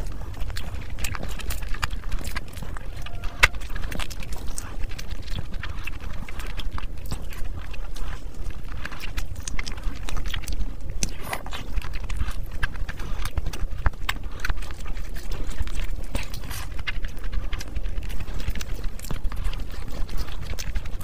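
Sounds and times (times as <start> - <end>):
chewing and wet lip-smacking: 0.0 - 21.0.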